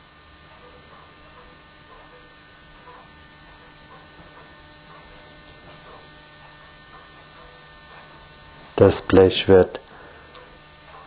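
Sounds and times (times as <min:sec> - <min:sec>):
electrical hum: 0:00.0 - 0:11.0
faint buzz: 0:00.0 - 0:11.0.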